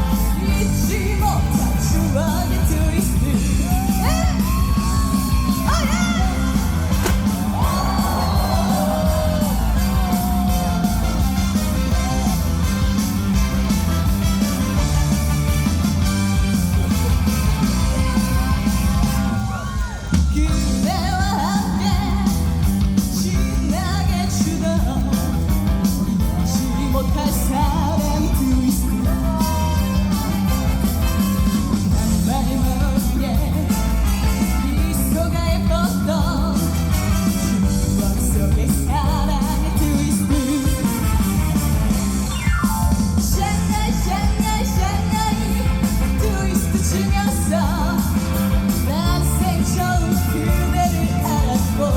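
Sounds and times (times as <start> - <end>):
instrumental accompaniment with guitar: 0.0 - 51.9
woman singing upbeat song: 0.0 - 51.9.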